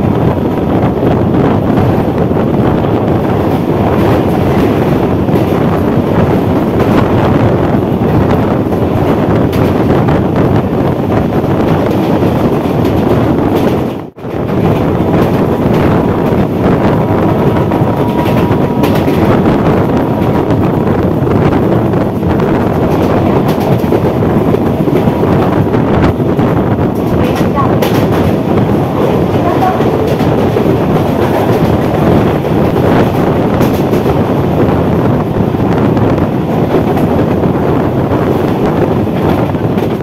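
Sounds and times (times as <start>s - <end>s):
electric train rumble and rail noise: 0.0s - 40.0s
wind buffeting microphone: 0.0s - 40.0s.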